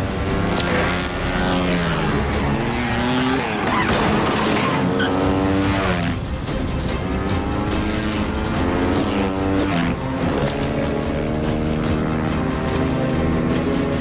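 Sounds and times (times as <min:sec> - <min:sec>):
motorcycle engine revving: 0:00.0 - 0:14.0
tyres skidding: 0:00.1 - 0:14.0.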